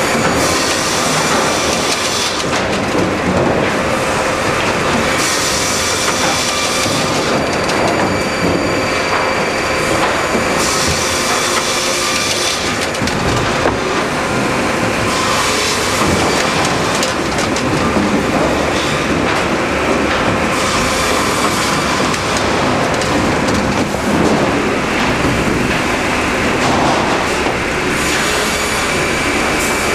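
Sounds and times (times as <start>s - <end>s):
sawmill machinery running: 0.0s - 29.9s.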